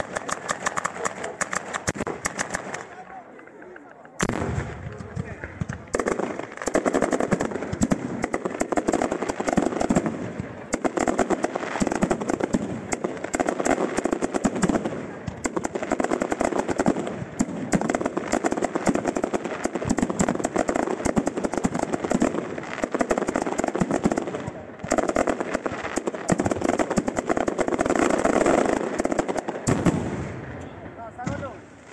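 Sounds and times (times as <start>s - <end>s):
fireworks bangs and crackling: 0.0s - 31.9s.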